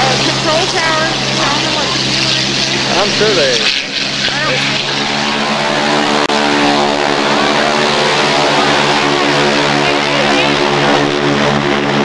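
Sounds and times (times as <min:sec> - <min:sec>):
piston aircraft engine running: 0:00.0 - 0:12.0.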